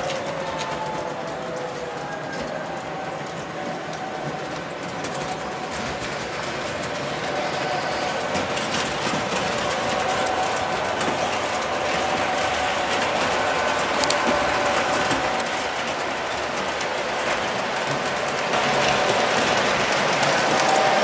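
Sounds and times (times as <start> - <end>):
wheels clicking over rails: 0.0 - 21.0.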